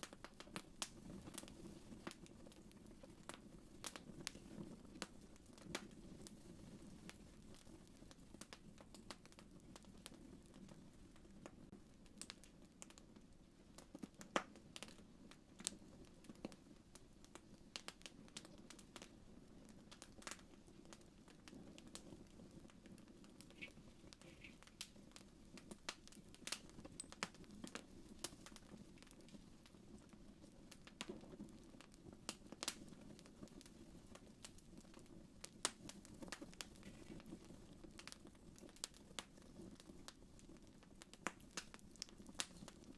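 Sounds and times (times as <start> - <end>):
fire crackling and popping: 0.0 - 42.9.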